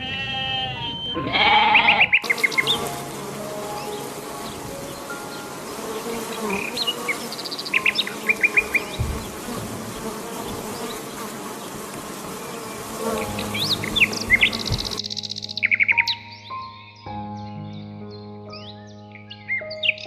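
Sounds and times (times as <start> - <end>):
insects buzzing: 0.0 - 16.2.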